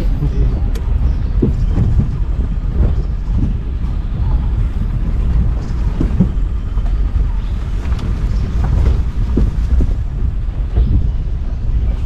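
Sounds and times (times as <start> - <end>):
vehicle knocks and jolts: 0.0 - 11.2
engine rumble: 0.0 - 12.0
wind buffeting microphone: 0.0 - 12.0.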